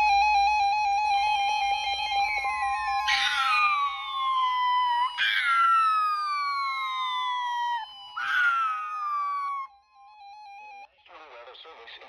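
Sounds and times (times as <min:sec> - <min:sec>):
siren wail sliding down: 0:00.0 - 0:10.8.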